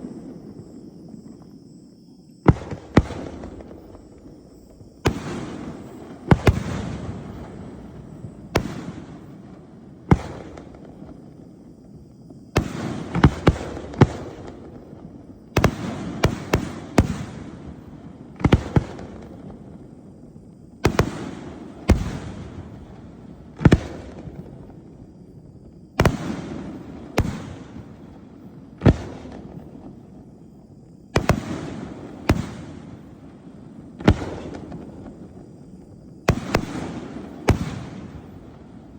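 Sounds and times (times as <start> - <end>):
firework shells booming: 2.4 - 19.8, 20.7 - 30.4, 31.0 - 38.9.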